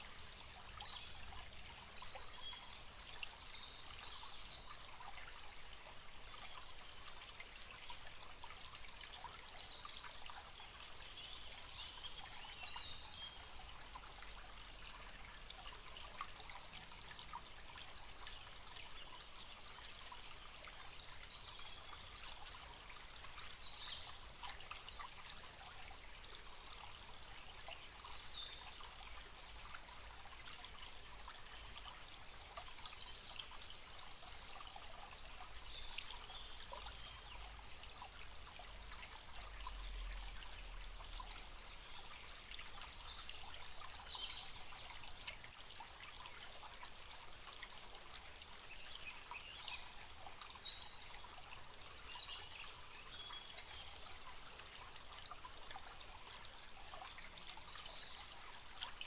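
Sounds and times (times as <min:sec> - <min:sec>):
forest stream flowing: 0:00.0 - 0:59.0.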